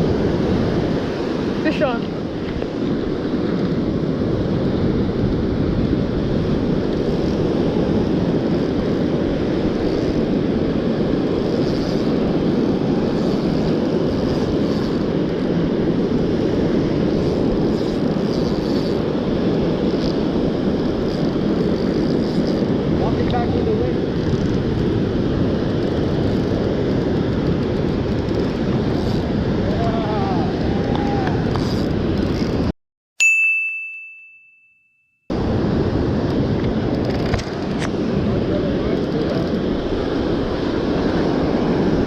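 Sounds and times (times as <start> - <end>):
ocean surf roar: 0.0 - 32.7, 35.3 - 42.0
wind rumbling on microphone: 0.0 - 32.7, 35.3 - 42.0.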